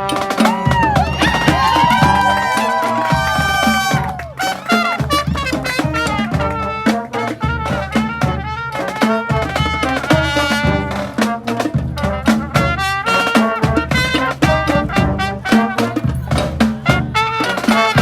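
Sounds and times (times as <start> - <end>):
brass horns playing: 0.0 - 18.0
steady driving drum beat: 0.0 - 18.0.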